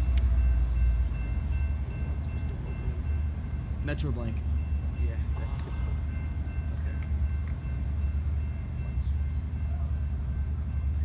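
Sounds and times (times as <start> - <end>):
train idling rumble: 0.0 - 11.0.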